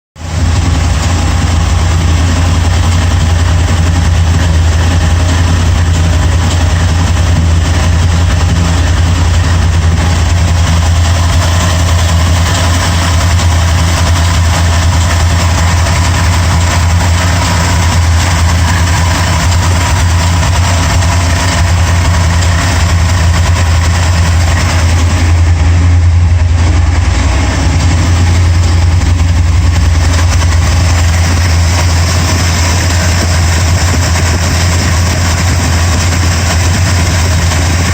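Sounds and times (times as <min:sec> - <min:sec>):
car engine idling: 0:00.2 - 0:37.9
engine ticking: 0:00.2 - 0:37.9.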